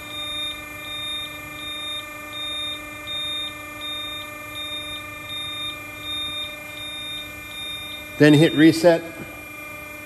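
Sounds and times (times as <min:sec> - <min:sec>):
high alarm beeps: 0:00.0 - 0:09.0
machine hum: 0:00.0 - 0:10.0.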